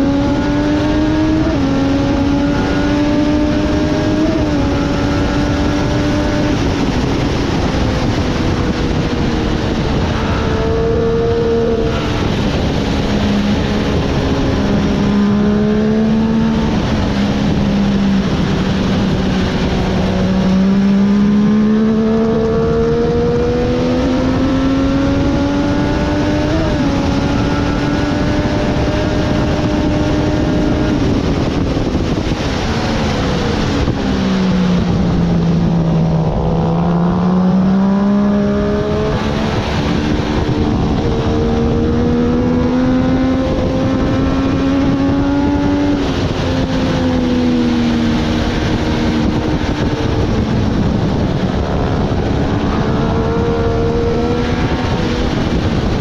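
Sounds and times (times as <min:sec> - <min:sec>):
motorcycle engine running hard: 0:00.0 - 0:56.0
wind rush: 0:00.0 - 0:56.0.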